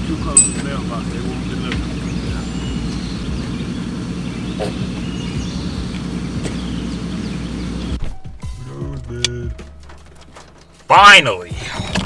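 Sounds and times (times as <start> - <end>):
birds chirping: 0.0 - 12.0
vehicle engine idling: 0.0 - 12.0.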